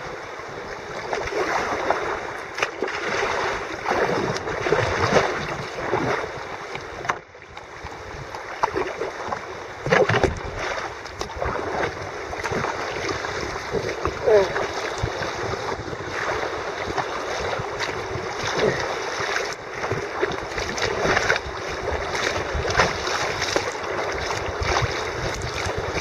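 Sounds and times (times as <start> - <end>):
paddle splashing water: 0.0 - 26.0
water washing along hull: 0.0 - 26.0.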